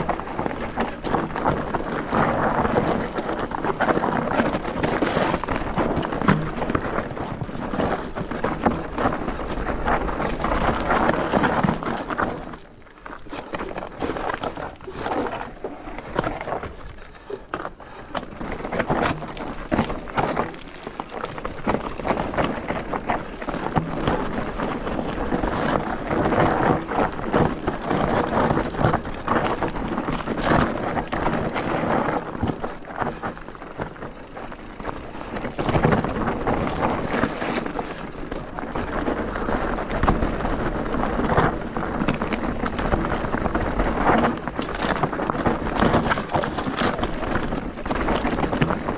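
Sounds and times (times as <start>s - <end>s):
bike frame rattling: 0.0s - 48.9s
bike tyre noise: 0.0s - 48.9s.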